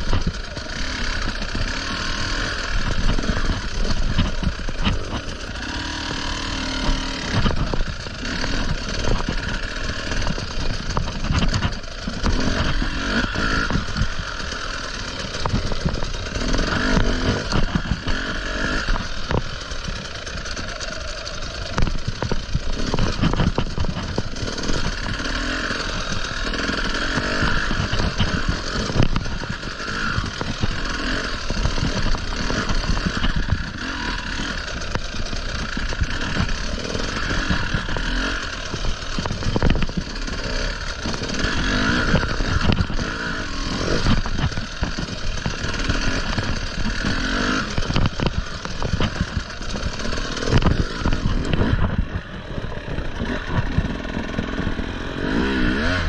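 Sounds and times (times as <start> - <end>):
knocks and clatter: 0.0 - 14.4, 15.0 - 54.7
motorcycle engine revving: 0.0 - 56.0.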